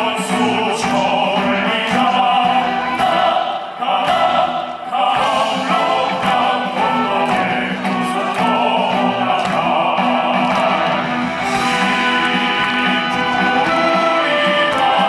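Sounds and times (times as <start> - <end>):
military band music: 0.0 - 15.0.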